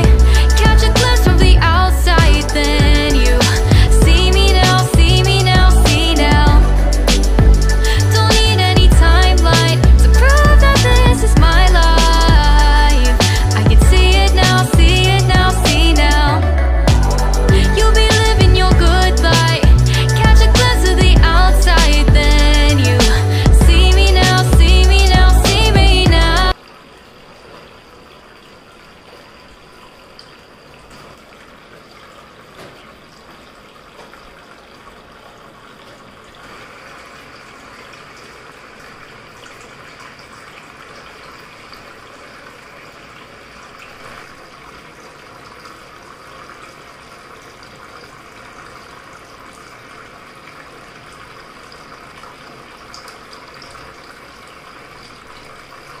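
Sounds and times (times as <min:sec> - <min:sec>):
fountain water trickling and splashing: 0:00.0 - 0:25.3, 0:25.9 - 0:56.0.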